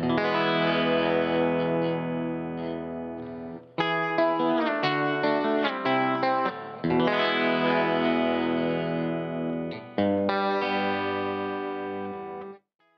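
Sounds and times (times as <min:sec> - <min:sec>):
distorted electric guitar chords: 0:00.0 - 0:12.6.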